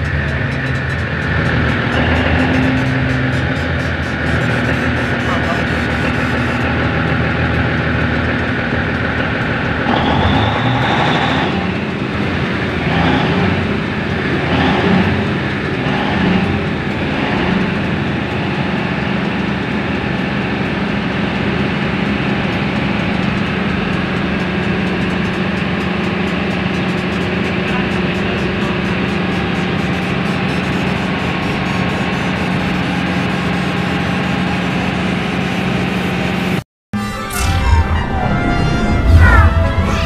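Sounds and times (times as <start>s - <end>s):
diesel generator engine revving: 0.0s - 40.0s.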